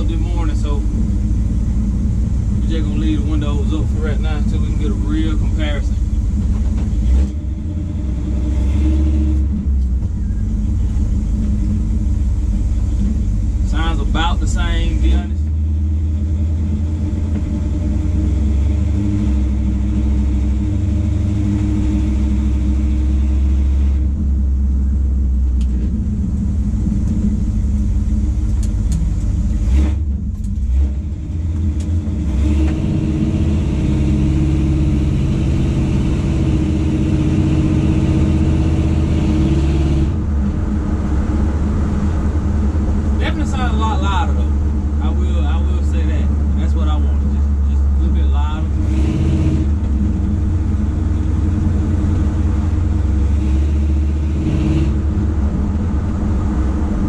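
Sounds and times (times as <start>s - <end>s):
truck engine droning in cab: 0.0s - 57.0s.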